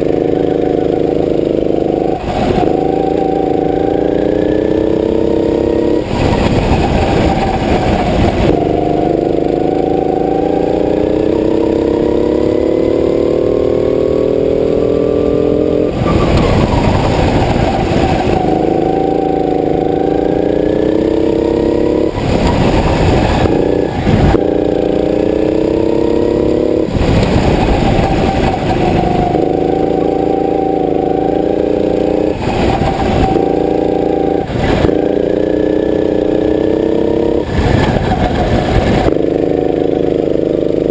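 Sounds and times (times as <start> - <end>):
go-kart engine running hard: 0.0 - 40.9.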